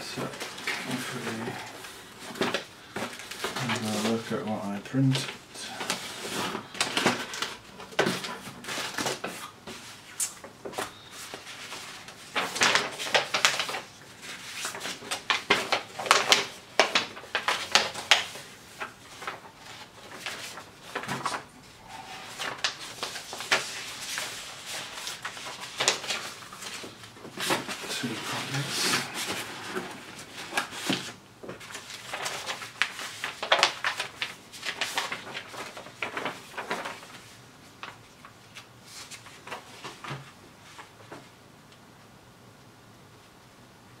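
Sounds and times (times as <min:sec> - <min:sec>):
paper sheets rustling: 0:00.0 - 0:41.4.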